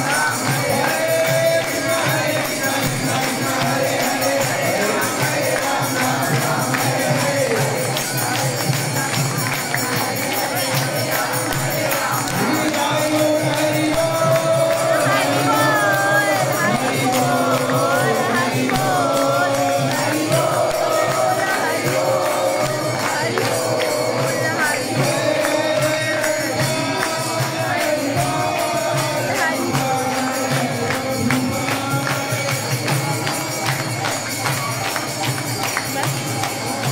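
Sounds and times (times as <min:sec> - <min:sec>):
devotional singing: 0:00.0 - 0:36.9
jingling hand percussion: 0:00.0 - 0:36.9.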